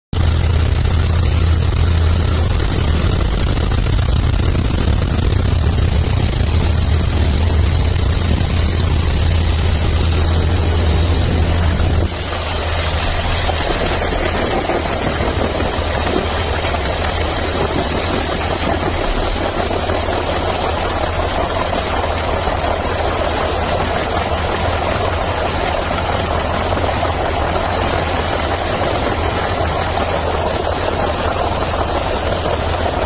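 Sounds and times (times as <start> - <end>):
aircraft engine drone: 0.2 - 33.0
rushing air noise: 0.2 - 33.0.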